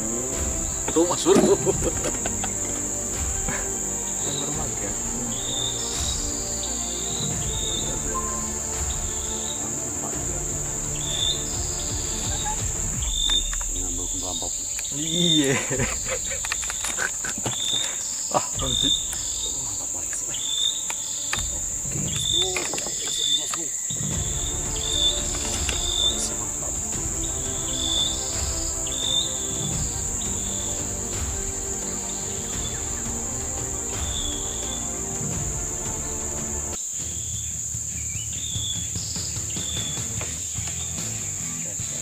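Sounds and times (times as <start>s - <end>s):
insect chirps: 0.0s - 42.0s
insects droning: 0.0s - 42.0s.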